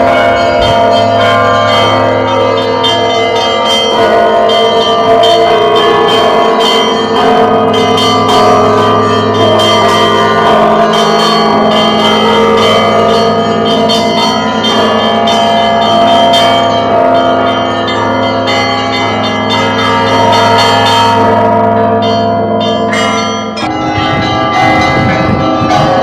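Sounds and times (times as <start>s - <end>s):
large bell humming: 0.0s - 26.0s
small bells striking quickly: 0.0s - 26.0s.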